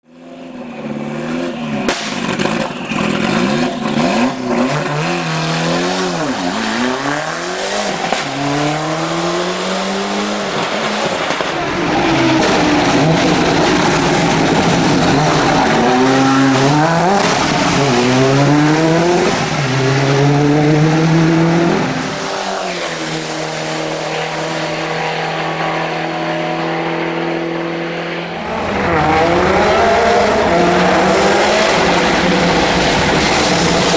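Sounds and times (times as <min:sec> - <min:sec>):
rally car engine revving: 0:00.3 - 0:33.9.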